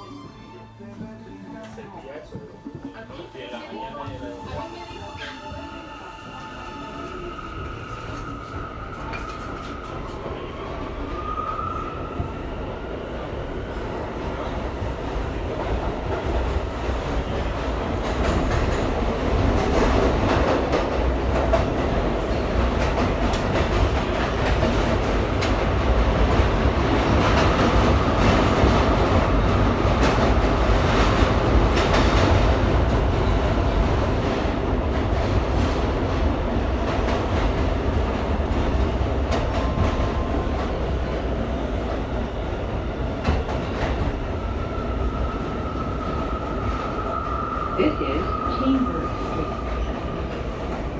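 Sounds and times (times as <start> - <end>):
train wheels rumbling on rails: 4.0 - 50.9.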